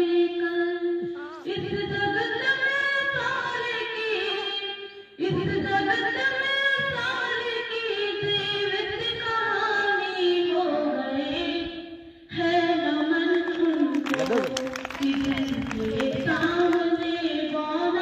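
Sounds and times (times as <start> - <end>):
girl singing: 0.0 - 14.0, 15.0 - 18.0.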